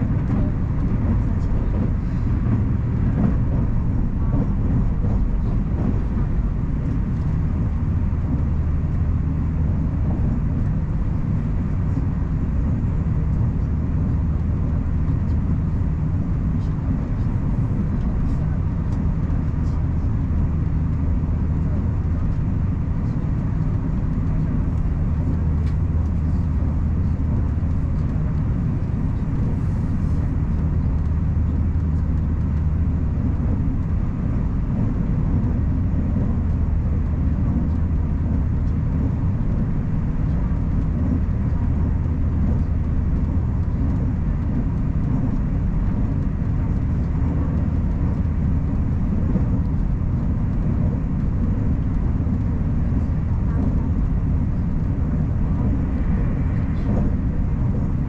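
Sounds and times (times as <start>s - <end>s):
constant low hum: 0.0s - 58.0s
train rumbling on the line: 0.0s - 58.0s.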